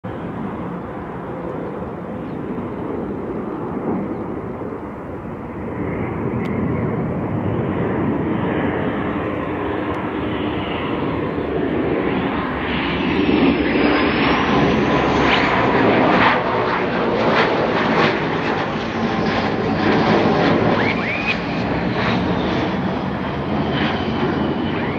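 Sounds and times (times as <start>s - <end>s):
jet engine roar: 0.0s - 24.9s
high engine whine: 0.1s - 24.9s.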